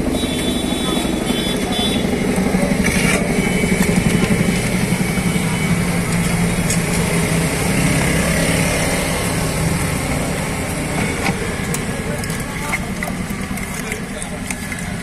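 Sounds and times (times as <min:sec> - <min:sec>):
street traffic engine drone: 0:00.0 - 0:15.0.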